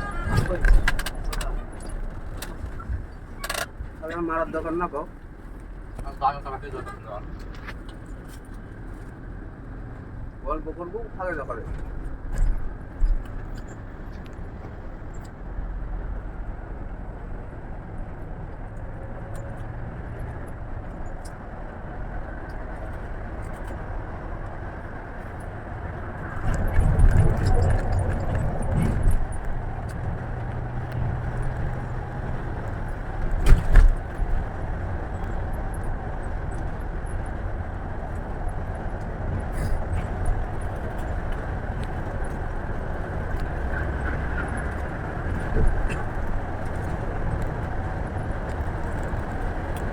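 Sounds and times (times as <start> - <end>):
coach engine and road noise: 0.0 - 49.9
heavy rumble: 0.0 - 49.9.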